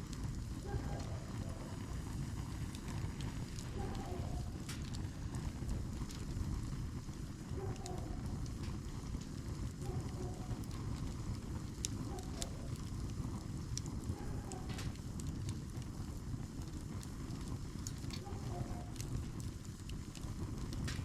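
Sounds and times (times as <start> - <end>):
campfire pops and snaps: 0.0 - 21.0
steady low rumble: 0.0 - 21.0.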